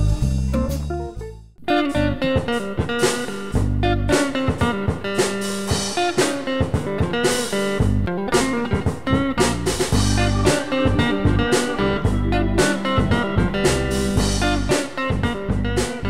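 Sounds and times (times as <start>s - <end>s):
bluesy plucked guitar: 0.0s - 16.0s
drum kit beat: 0.0s - 16.0s.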